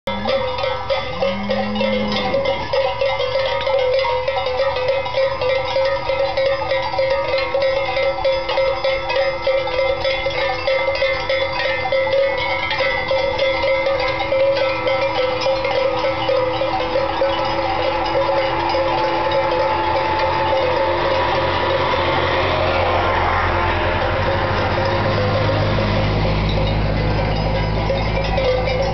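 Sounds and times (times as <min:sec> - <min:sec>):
cowbells clanking: 0:00.1 - 0:28.9.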